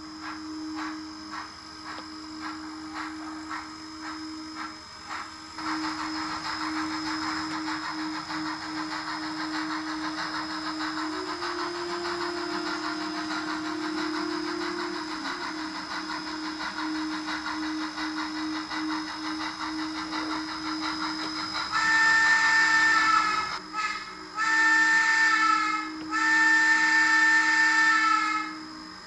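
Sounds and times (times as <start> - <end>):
chime steam whistle blasts: 0.0 - 29.0
model steam locomotive chuffing: 0.0 - 29.0
motor hum: 0.0 - 29.0.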